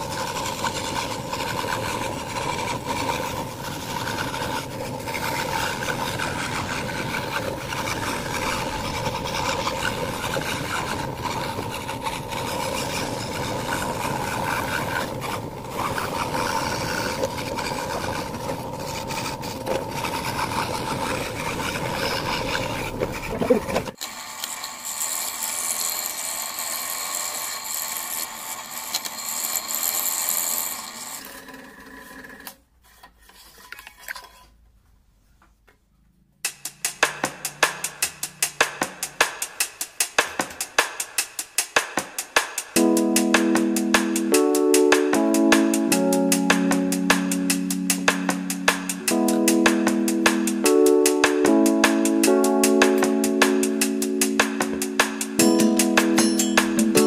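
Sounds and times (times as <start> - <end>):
scroll saw cutting wood: 0.0 - 34.6, 36.8 - 57.0.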